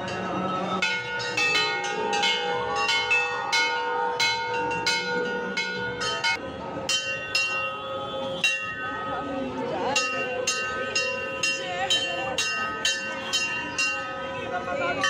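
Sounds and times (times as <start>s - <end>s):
large brass bells ringing: 0.0s - 15.0s.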